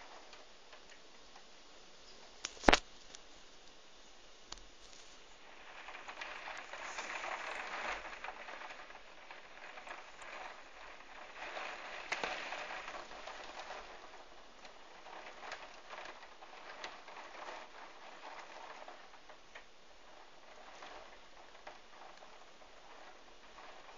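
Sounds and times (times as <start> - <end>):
heavy rain pattering: 0.0 - 23.9.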